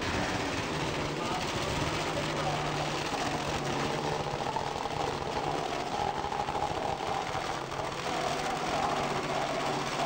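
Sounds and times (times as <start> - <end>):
dragster engine idling: 0.0 - 10.0.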